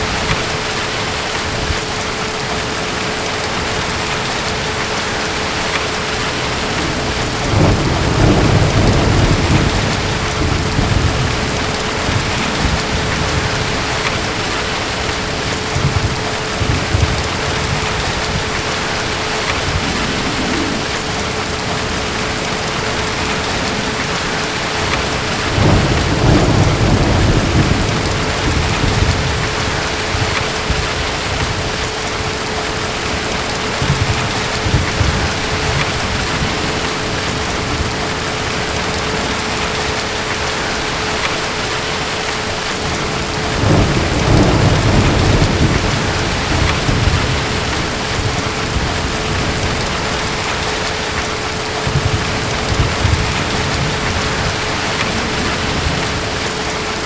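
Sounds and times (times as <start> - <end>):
distant thunder rumbling: 0.0 - 57.0
heavy rain: 0.0 - 57.0.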